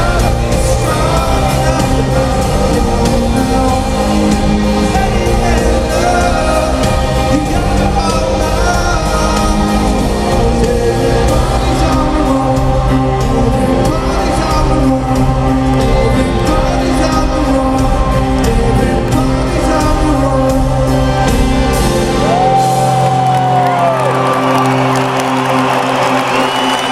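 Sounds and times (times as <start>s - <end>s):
person singing: 0.0s - 24.8s
crowd cheering: 0.0s - 26.9s
live rock band playing: 0.0s - 26.9s.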